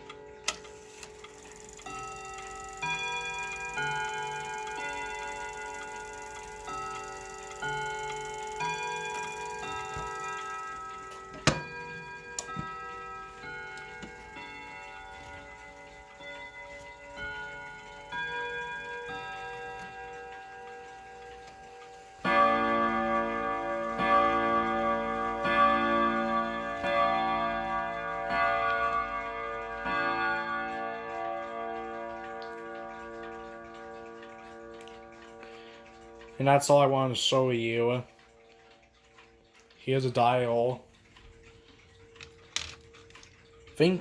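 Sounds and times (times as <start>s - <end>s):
clock chiming a melody: 0.0s - 44.0s
clock ticking: 0.0s - 44.0s.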